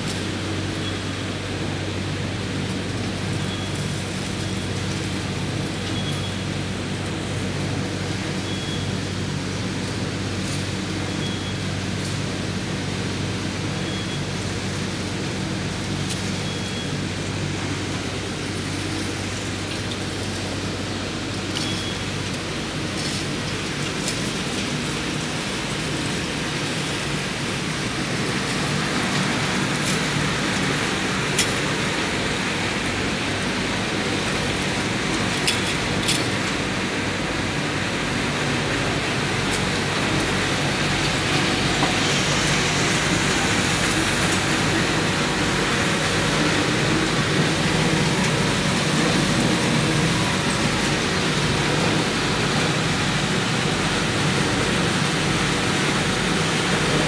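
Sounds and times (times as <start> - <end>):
machinery running: 0.0 - 57.0.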